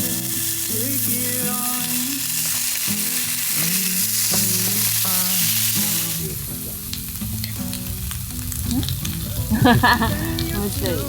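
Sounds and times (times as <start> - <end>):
instrumental song: 0.0 - 11.0
steady hiss: 0.0 - 11.0.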